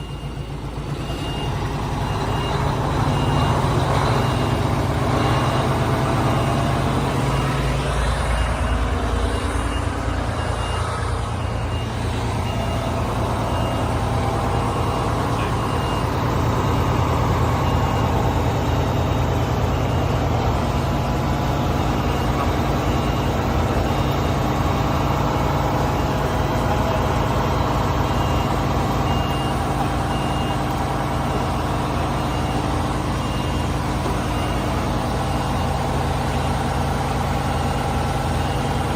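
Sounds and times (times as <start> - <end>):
diesel truck engine running: 0.0 - 38.9
high electronic beeps: 0.0 - 38.9.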